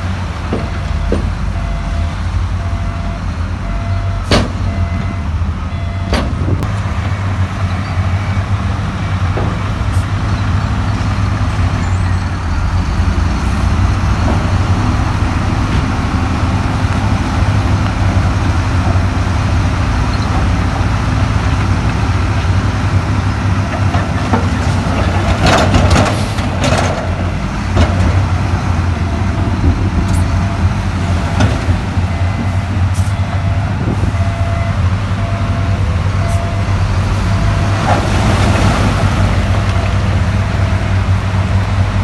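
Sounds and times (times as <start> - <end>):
heavy diesel machinery engine drone: 0.0 - 42.0.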